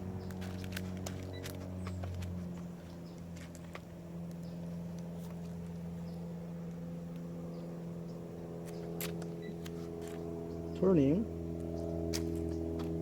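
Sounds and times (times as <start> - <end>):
pool cleaner motors humming: 0.0 - 13.0.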